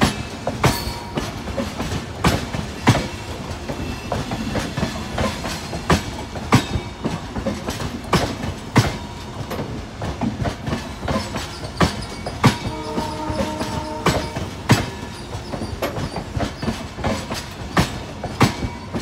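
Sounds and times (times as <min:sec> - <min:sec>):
train coaches rumbling past: 0:00.0 - 0:19.0
wheels clacking over rail joints: 0:00.0 - 0:19.0.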